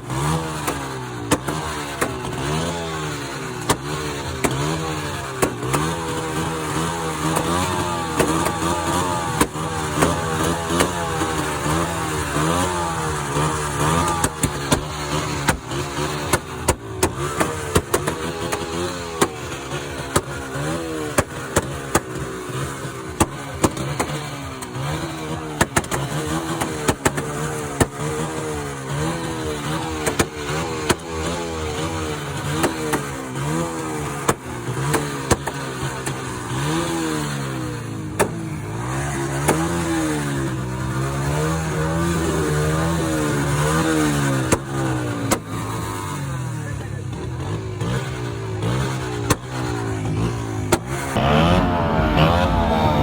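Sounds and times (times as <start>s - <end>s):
motorcycle and car engines revving: 0.0s - 53.0s.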